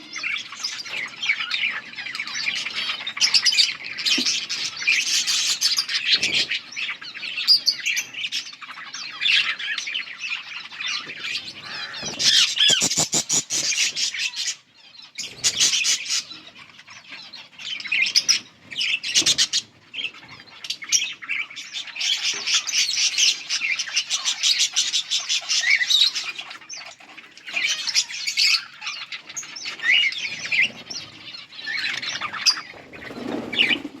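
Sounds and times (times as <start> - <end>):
budgerigars chirping and warbling: 0.0 - 34.0.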